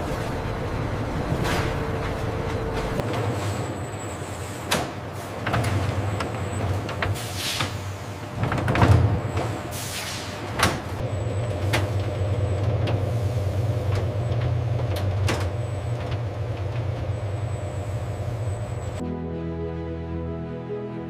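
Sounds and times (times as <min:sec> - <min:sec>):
factory machinery humming: 0:00.0 - 0:19.3.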